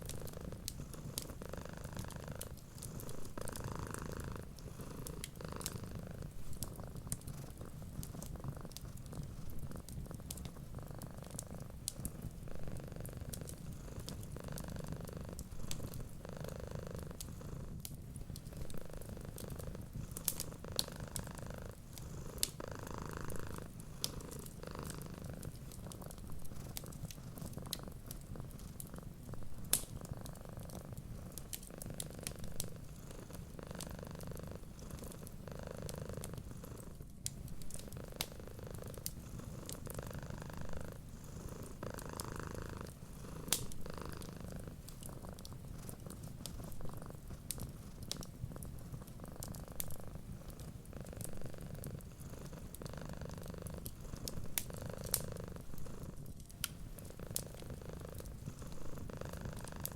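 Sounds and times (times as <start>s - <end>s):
cat purring: 0.0s - 59.9s
wood fire crackling: 0.0s - 59.9s.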